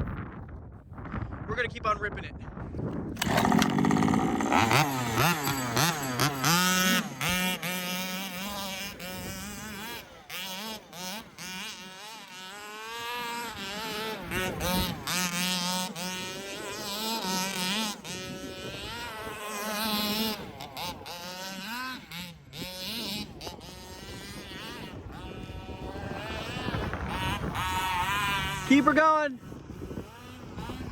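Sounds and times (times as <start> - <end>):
two-stroke engine revving: 3.1 - 30.9.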